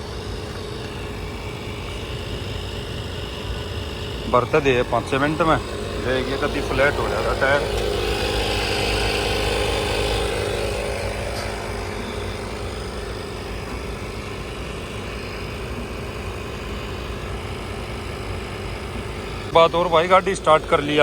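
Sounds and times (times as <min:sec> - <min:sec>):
tyre inflator running: 0:00.0 - 0:21.0.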